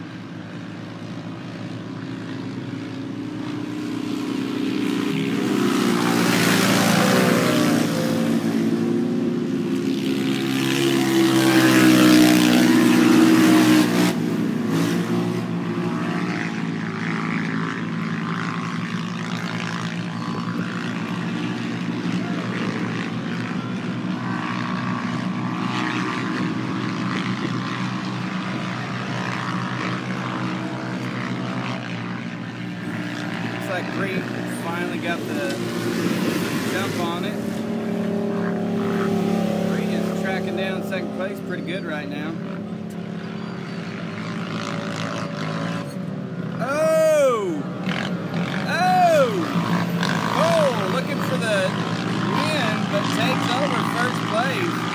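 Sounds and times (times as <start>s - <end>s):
racing engines humming: 0.0s - 54.9s.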